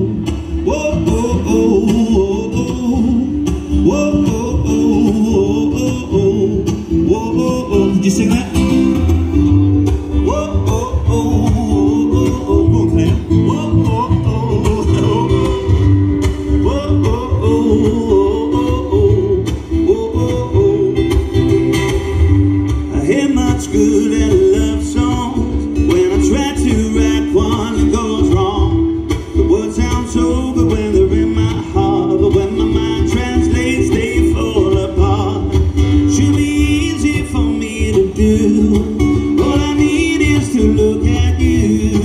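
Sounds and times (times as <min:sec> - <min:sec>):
man singing: 0:00.0 - 0:22.1, 0:22.7 - 0:42.0
strummed acoustic guitar: 0:00.0 - 0:42.0.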